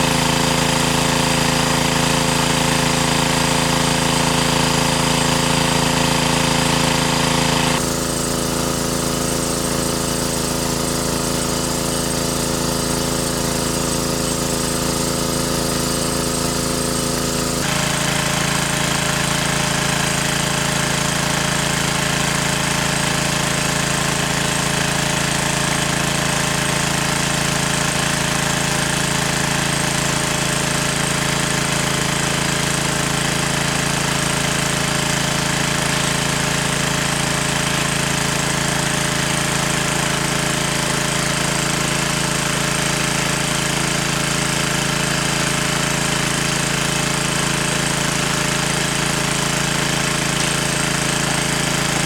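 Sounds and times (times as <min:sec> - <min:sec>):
small engine drone: 0:00.0 - 0:52.0.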